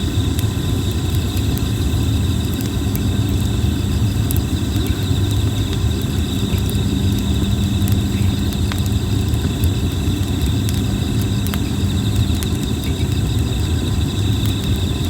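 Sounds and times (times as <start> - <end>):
campfire crackling and popping: 0.0 - 15.0
insects chirring: 0.0 - 15.0
steady low rumble: 0.0 - 15.0.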